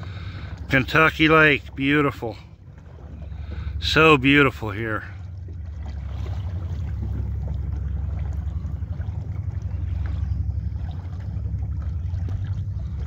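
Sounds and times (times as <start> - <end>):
low rumble on lake water: 0.0 - 13.0
wind buffeting microphone: 0.0 - 13.0.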